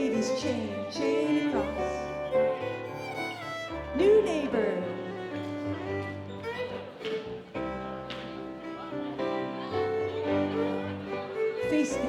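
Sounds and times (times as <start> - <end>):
fiddle playing a tune: 0.0 - 12.0.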